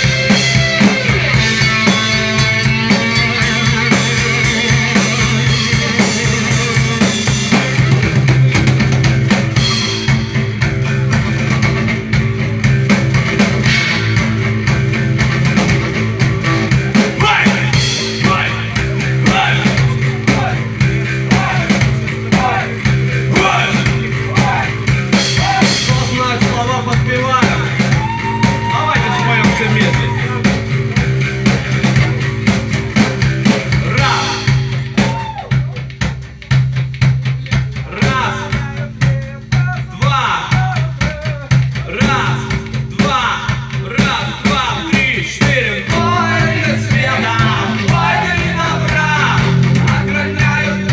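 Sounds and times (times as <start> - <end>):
drum kit beat: 0.0 - 50.9
rock band playing: 0.0 - 50.9.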